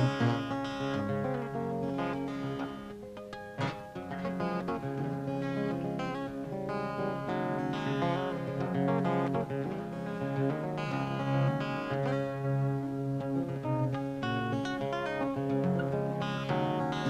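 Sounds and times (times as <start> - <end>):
acoustic guitar: 0.0 - 17.0.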